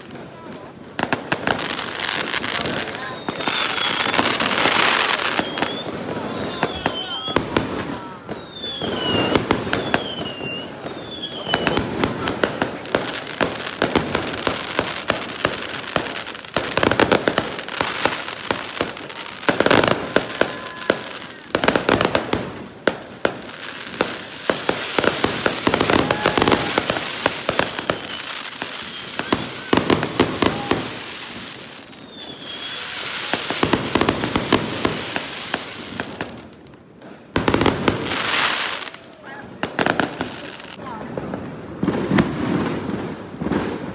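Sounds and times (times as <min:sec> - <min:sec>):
fireworks bangs and crackling: 0:00.0 - 0:43.9
falling firework whistles: 0:02.6 - 0:22.6, 0:23.4 - 0:36.4, 0:41.4 - 0:43.9.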